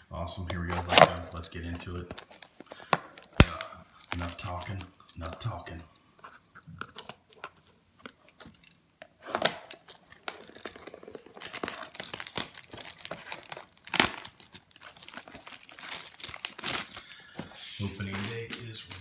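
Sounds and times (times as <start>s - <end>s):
plastic wrap crinkling and tearing: 0.5s - 5.6s, 6.8s - 19.0s.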